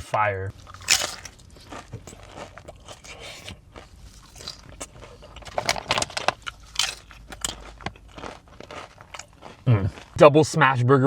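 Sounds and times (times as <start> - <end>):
crunching and chewing crispy food: 0.5 - 10.8.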